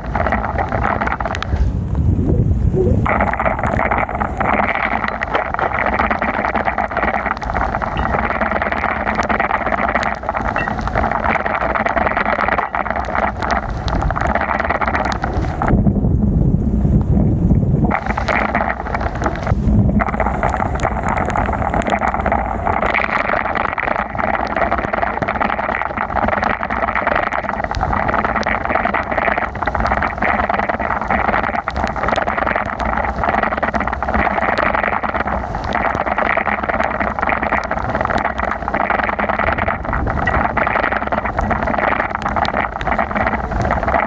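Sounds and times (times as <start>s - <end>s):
wind rushing on microphone: 0.0s - 9.3s, 10.3s - 33.2s, 33.8s - 44.0s
heavy rain: 0.0s - 44.0s.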